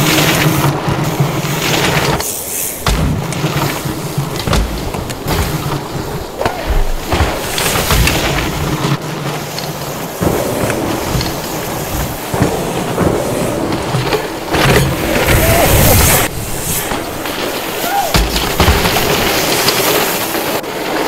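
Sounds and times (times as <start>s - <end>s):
bike knocks and rattles: 0.0s - 21.0s
bike tyres on dirt: 0.0s - 21.0s.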